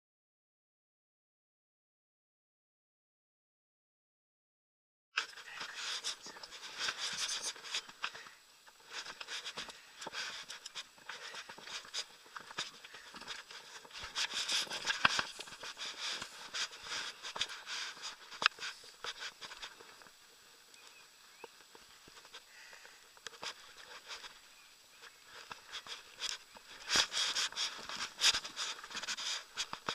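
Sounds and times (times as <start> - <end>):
rustling and clicking handling noise: 5.2 - 29.9.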